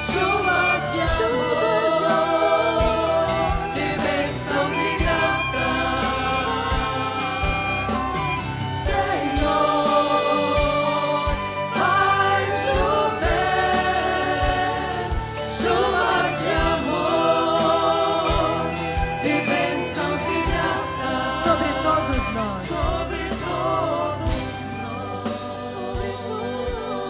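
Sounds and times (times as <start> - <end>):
congregation singing: 0.0 - 27.0
instrumental accompaniment with beat: 0.0 - 27.0.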